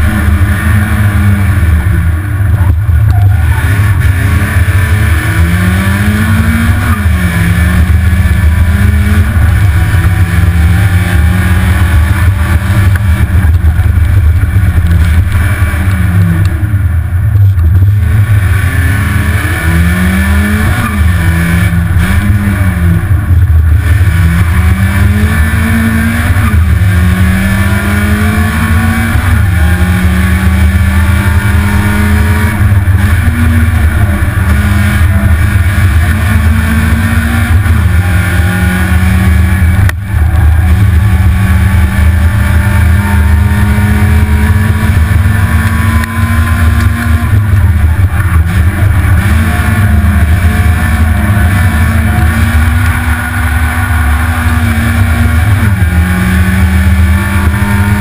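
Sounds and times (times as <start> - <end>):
heavy low rumble: 0.0 - 58.0
rally car engine revving: 0.0 - 58.0.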